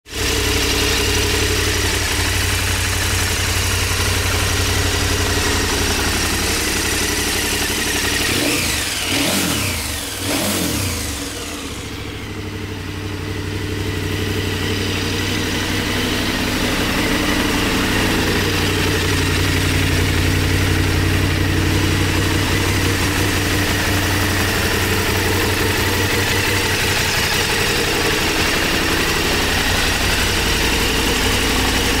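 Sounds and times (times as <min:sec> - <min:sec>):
motorcycle engine idling: 0:00.1 - 0:32.0
motorcycle throttle revs: 0:00.1 - 0:32.0.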